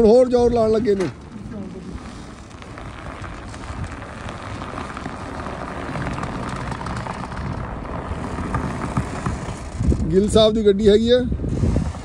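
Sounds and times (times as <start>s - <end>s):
steady rushing noise: 0.0s - 12.0s
truck engine straining: 0.0s - 12.0s
tyres churning in snow: 0.0s - 12.0s.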